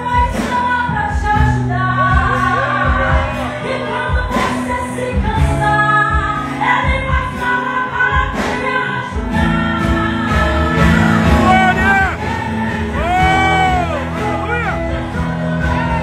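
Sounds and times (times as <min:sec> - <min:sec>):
band with electric guitar: 0:00.0 - 0:16.0
woman singing into a microphone: 0:00.0 - 0:16.0.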